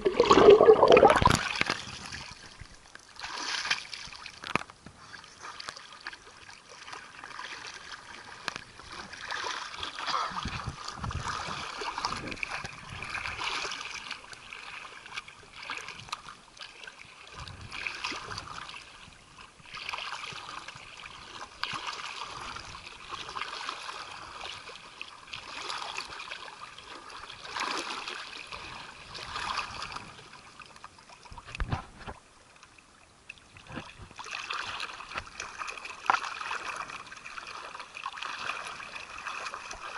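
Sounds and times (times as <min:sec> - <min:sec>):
sea water sloshing and splashing: 0:00.0 - 0:39.9.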